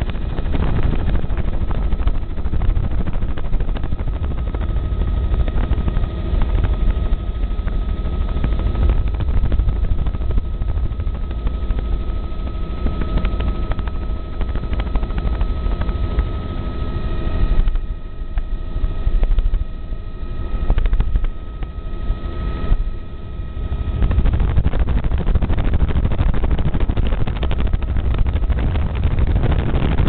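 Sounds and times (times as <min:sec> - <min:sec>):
helicopter rotor and engine: 0:00.0 - 0:30.0
thin steady whine: 0:00.0 - 0:30.0.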